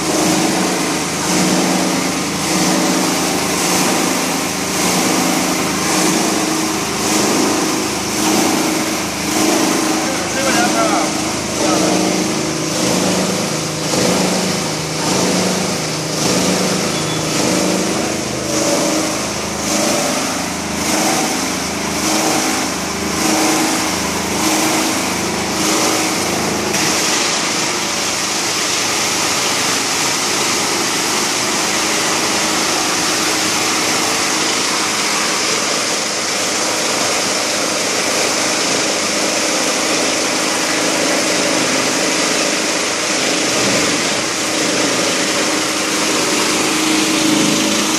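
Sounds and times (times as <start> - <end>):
plastic crusher running: 0.0 - 47.9.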